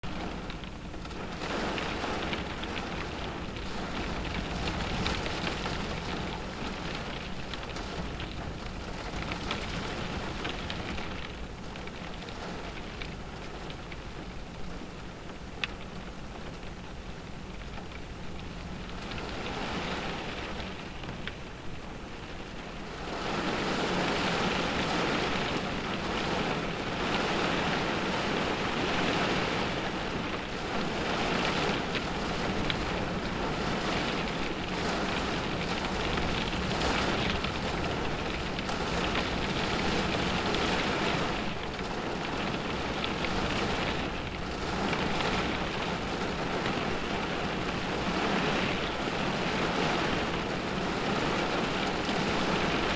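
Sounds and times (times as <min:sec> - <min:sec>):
rain beating on a car: 0:00.0 - 0:52.9.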